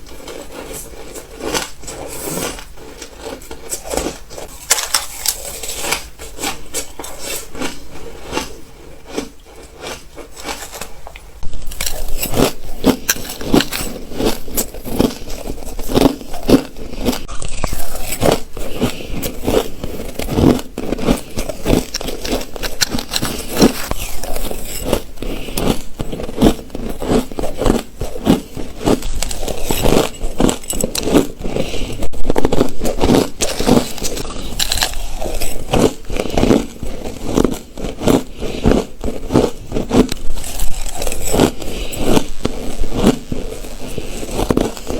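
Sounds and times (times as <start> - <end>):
ice being chewed: 0.0 - 44.9.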